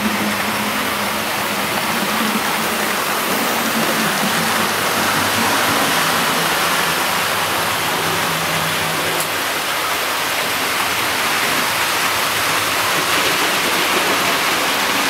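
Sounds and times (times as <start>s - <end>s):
model train motor humming: 0.0s - 15.0s
model train wheels rolling on rails: 0.0s - 15.0s.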